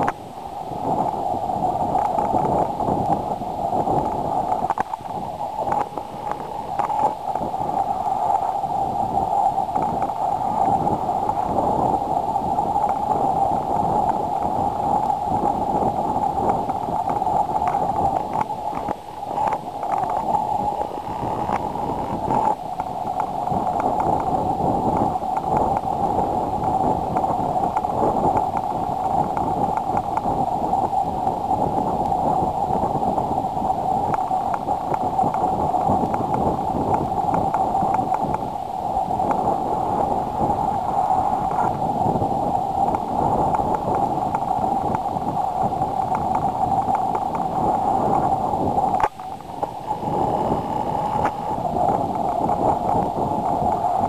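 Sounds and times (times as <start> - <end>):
rushing wind: 0.0 - 54.0
water noise: 0.0 - 54.0.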